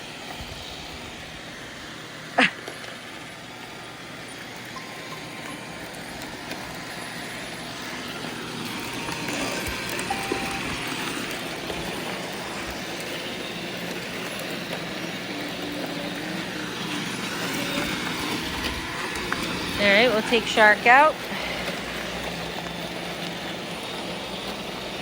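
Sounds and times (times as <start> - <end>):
robot vacuum cleaners whirring: 0.0 - 25.0.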